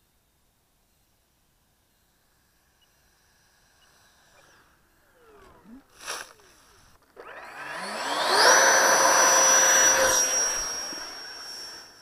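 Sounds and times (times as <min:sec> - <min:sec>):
electric ducted fan whining: 0:01.7 - 0:12.0.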